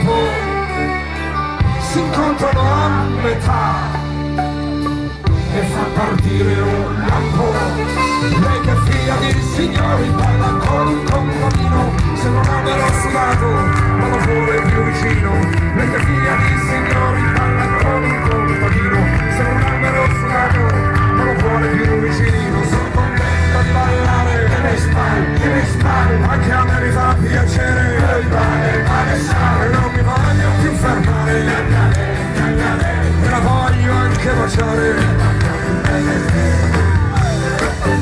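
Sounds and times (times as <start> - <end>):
live folk-rock band playing: 0.0 - 38.0.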